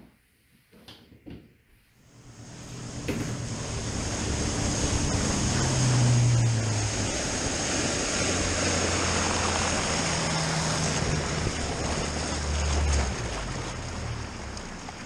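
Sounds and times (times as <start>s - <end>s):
boat motor running: 2.1s - 15.0s
water rushing along hull: 2.1s - 15.0s.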